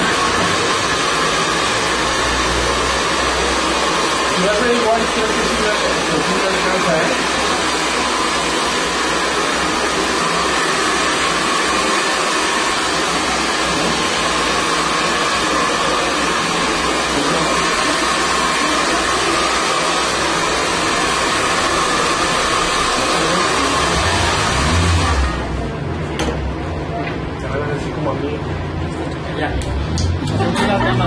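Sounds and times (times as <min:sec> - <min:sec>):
hair dryer running: 0:00.0 - 0:26.4.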